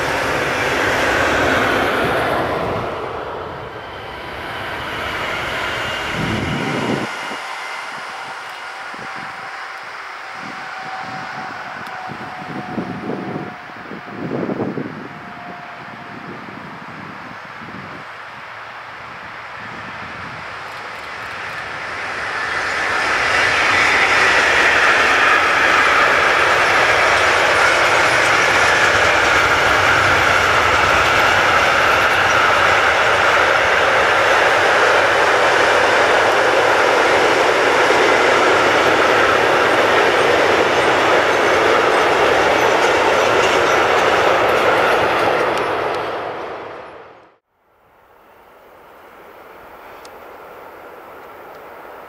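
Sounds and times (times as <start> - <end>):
freight train rolling on rails: 0.0 - 47.4, 48.1 - 52.0.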